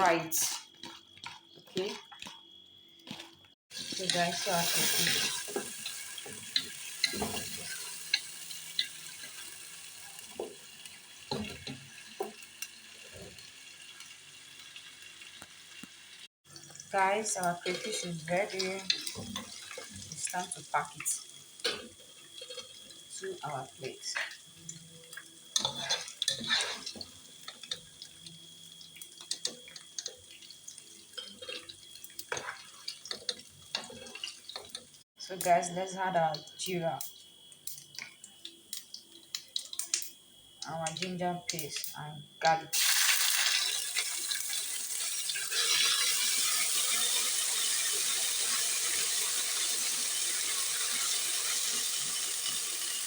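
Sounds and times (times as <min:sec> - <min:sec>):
spices sizzling in hot oil: 0:00.0 - 0:53.0.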